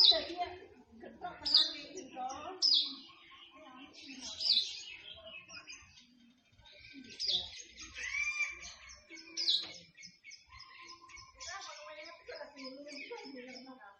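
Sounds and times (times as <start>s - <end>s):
songbirds chirping and singing: 0.0s - 13.9s.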